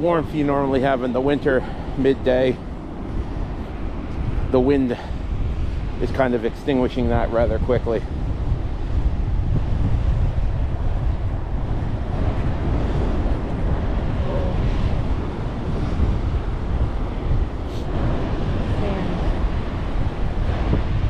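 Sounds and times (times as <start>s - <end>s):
ocean surf washing: 0.0s - 21.0s
wind buffeting microphone: 0.0s - 21.0s.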